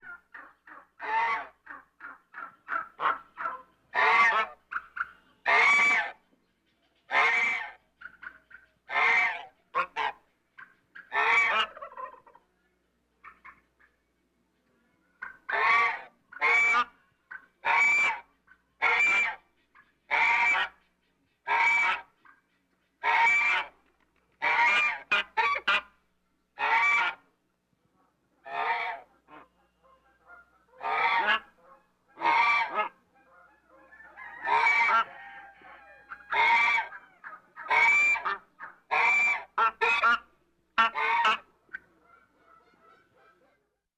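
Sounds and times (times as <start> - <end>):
goose honking: 0.0 - 6.2, 7.1 - 12.3, 15.2 - 19.4, 20.1 - 20.8, 21.4 - 22.1, 23.0 - 23.8, 24.4 - 26.0, 26.6 - 27.3, 28.4 - 43.6.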